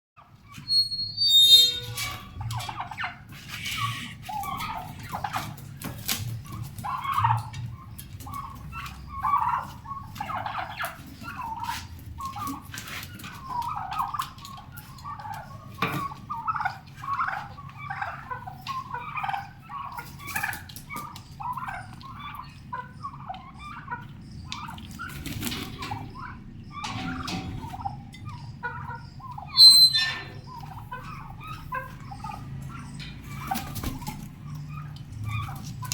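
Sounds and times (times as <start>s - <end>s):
young turkeys calling: 0.2s - 35.9s
loud high-pitched turkey call: 0.5s - 5.6s, 6.4s - 35.9s.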